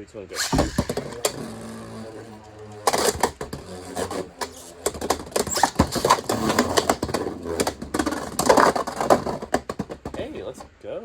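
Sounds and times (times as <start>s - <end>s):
sharp plastic hit: 0.3s - 10.7s.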